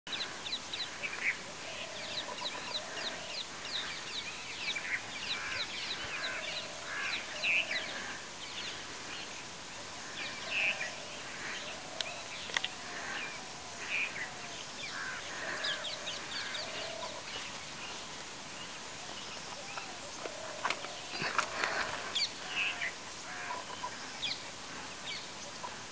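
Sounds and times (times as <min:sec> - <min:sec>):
steady high-pitched hiss: 0:00.1 - 0:25.9
wild birds chirping and whistling: 0:00.1 - 0:25.9.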